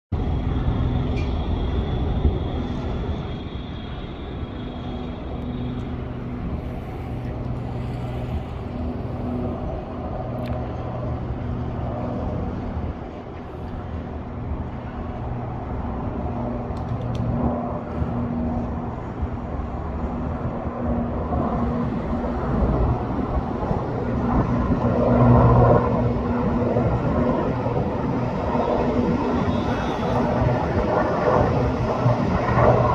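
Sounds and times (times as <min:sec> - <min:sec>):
helicopter flying overhead: 0:00.1 - 0:32.9.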